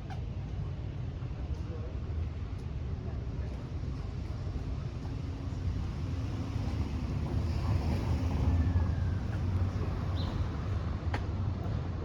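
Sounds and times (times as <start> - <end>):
city background noise: 0.0 - 12.0.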